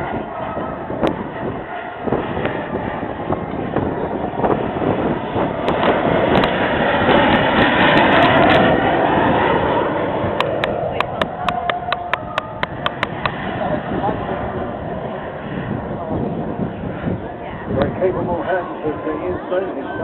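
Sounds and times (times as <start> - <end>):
aircraft flying past: 0.0 - 20.0
wind buffeting microphone: 0.0 - 20.0.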